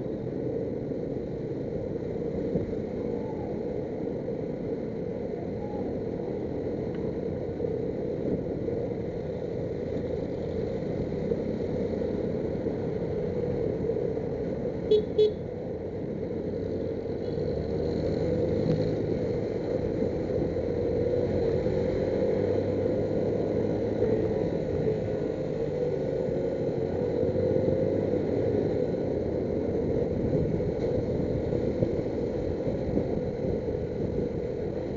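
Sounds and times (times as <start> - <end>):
heavy road traffic: 0.0 - 34.9.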